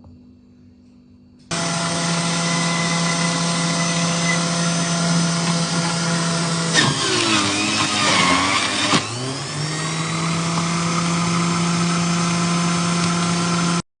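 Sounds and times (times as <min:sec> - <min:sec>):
small electric motor humming: 0:01.5 - 0:13.8.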